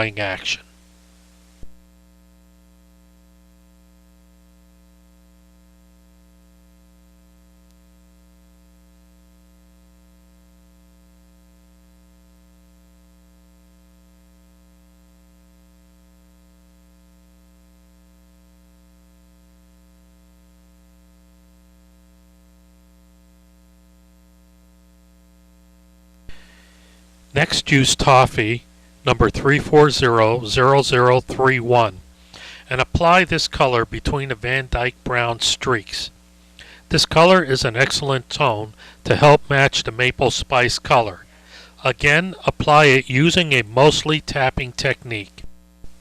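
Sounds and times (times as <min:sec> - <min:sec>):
faint electrical hum with hiss: 0:00.0 - 0:46.0.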